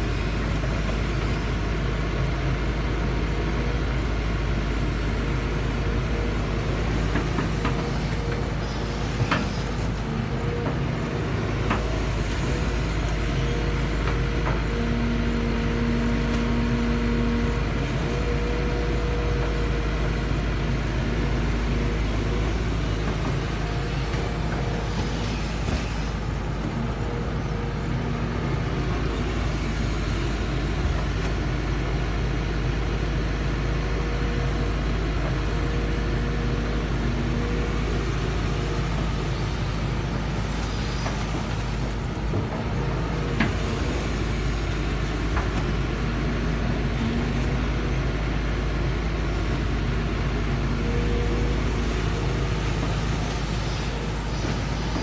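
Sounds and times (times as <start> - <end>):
excavator diesel rumble: 0.0 - 55.0
hydraulic whine: 4.9 - 55.0.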